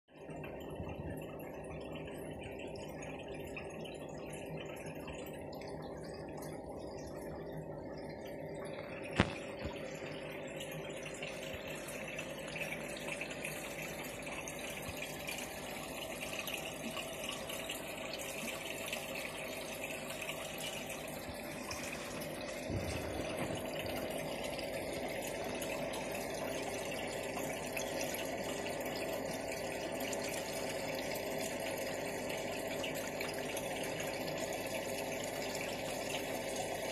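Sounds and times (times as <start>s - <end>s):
pump hum: 0.1s - 36.9s
running water: 0.1s - 36.9s.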